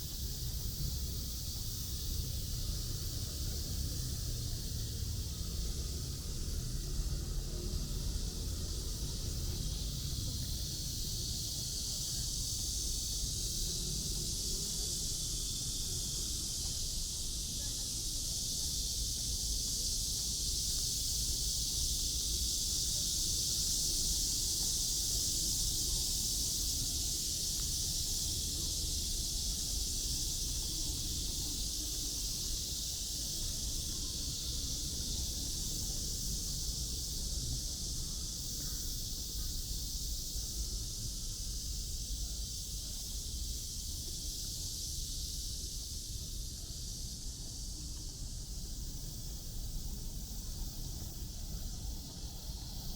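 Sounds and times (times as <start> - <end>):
high-pitched hiss: 0.0 - 52.9.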